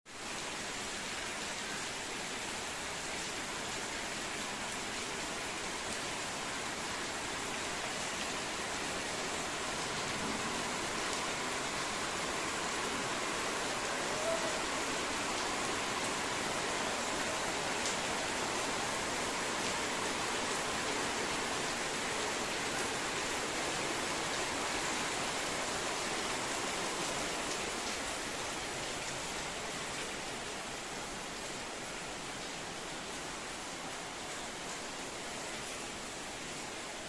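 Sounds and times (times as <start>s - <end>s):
steady rain hissing: 0.1s - 37.0s.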